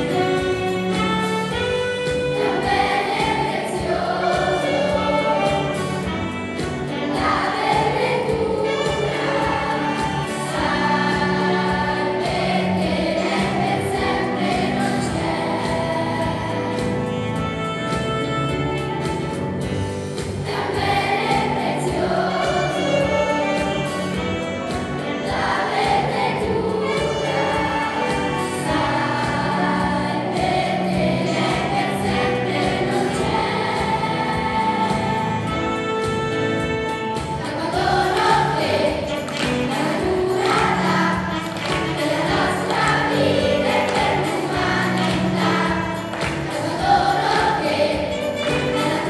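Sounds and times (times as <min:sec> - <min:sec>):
saxophone: 0:00.0 - 0:14.4, 0:15.2 - 0:46.5, 0:47.8 - 0:49.0
children's choir singing: 0:00.0 - 0:17.7, 0:20.2 - 0:49.0
instrumental accompaniment: 0:00.0 - 0:49.0.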